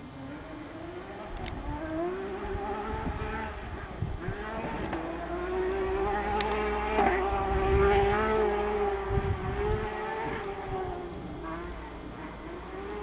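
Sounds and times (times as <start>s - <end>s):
distant high-revving car engine: 0.0s - 13.0s.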